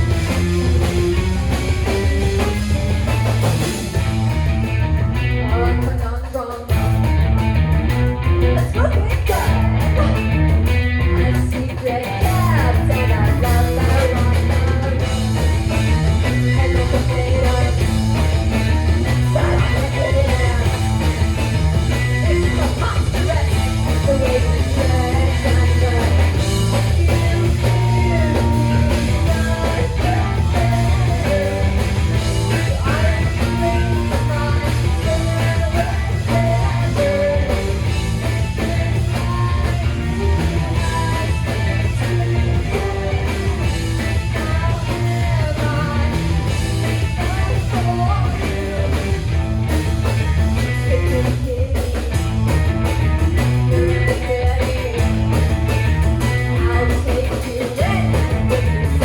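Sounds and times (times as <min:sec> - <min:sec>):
electric guitar: 0:00.0 - 0:59.0
heavy bass: 0:00.0 - 0:59.0.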